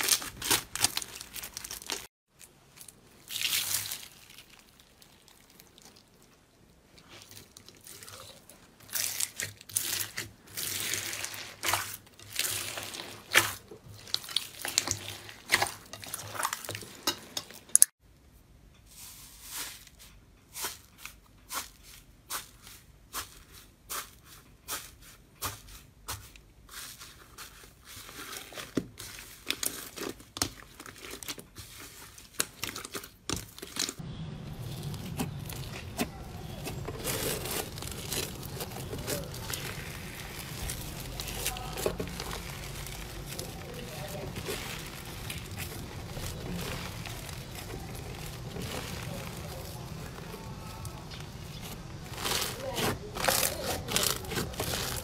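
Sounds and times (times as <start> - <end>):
slime crackling and squelching: 0.0 - 18.0, 23.9 - 55.0.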